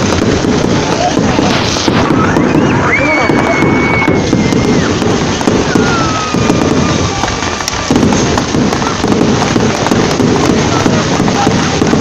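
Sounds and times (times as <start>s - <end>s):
falling firework whistle: 0.0s - 12.0s
fireworks crackling: 0.0s - 12.0s.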